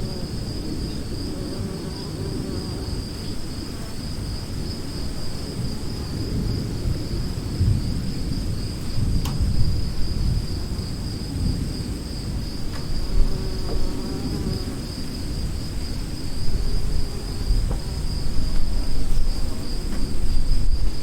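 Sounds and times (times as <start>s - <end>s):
crickets droning: 0.0s - 21.0s
distant thunder rumble: 0.0s - 21.0s.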